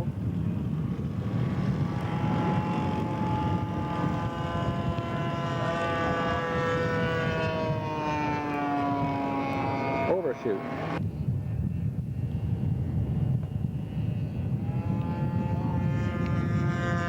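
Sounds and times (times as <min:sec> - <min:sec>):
model plane engine flying by: 0:00.0 - 0:17.0.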